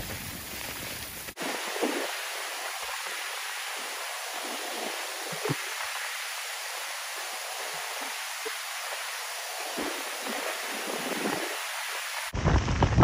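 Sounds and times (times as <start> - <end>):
wind hissing in pine trees: 0.0 - 12.3
wind rumble: 0.0 - 13.0.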